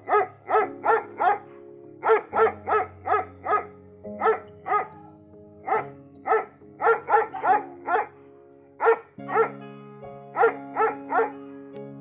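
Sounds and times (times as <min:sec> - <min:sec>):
dog barking: 0:00.0 - 0:05.0, 0:05.6 - 0:09.6, 0:10.4 - 0:11.6
background music with held notes: 0:00.0 - 0:12.0.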